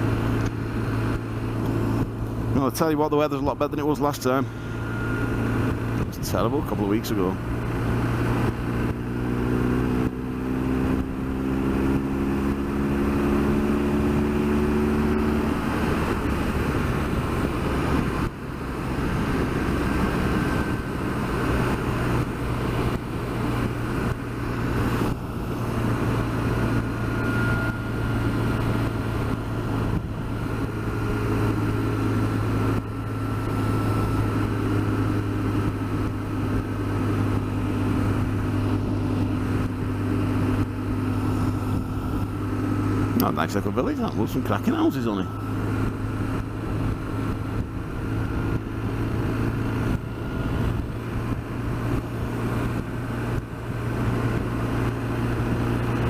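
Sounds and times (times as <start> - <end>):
motorcycle engine running: 0.0 - 56.0
wind and road rush: 0.0 - 56.0.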